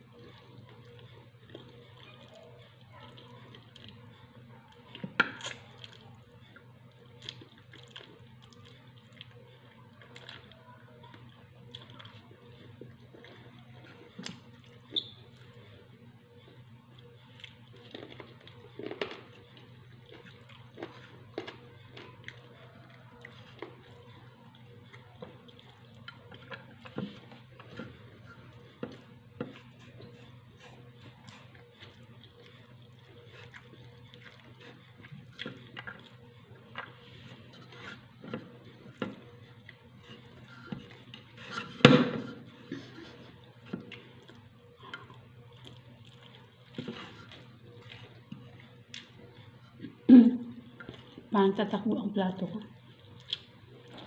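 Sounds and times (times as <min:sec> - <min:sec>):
low steady hum: 0:00.0 - 0:54.0
wet chewing: 0:00.1 - 0:41.8, 0:42.4 - 0:51.3, 0:52.6 - 0:54.0.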